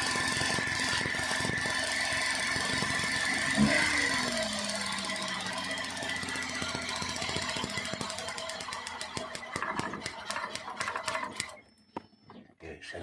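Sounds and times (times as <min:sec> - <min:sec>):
engine hum: 0:00.0 - 0:11.6.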